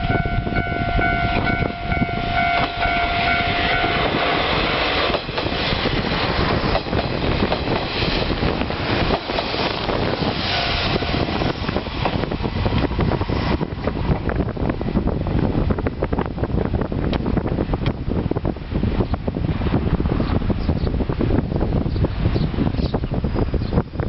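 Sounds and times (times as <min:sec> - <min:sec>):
railcar rumble and rail noise: 0:00.0 - 0:24.0.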